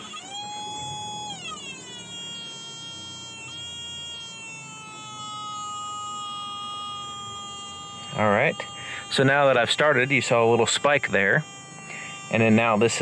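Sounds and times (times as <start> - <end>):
electronic meter whine: 0.0 - 13.0.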